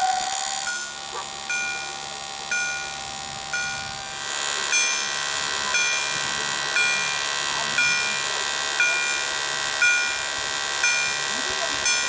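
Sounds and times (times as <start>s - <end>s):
level crossing bell ringing: 0.0s - 12.0s.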